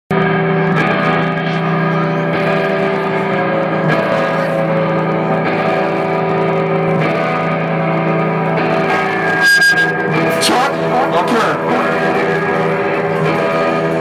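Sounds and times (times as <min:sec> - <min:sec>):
band playing amplified drone: 0:00.1 - 0:14.0.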